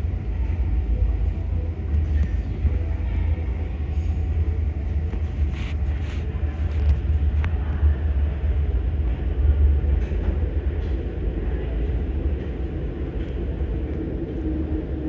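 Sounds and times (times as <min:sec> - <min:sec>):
metro train rumbling: 0:00.0 - 0:15.0.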